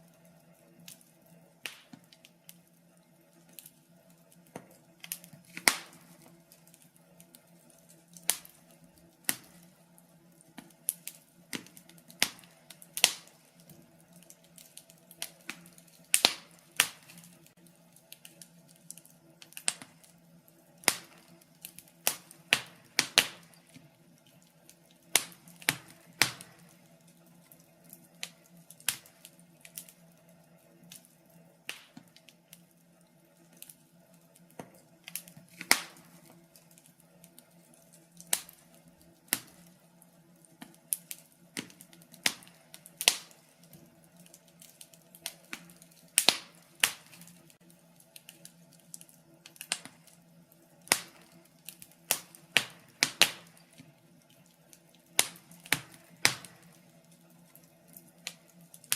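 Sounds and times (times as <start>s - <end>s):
faint steady hum: 0.0s - 58.9s
wood logs crackling in fireplace: 0.0s - 58.9s.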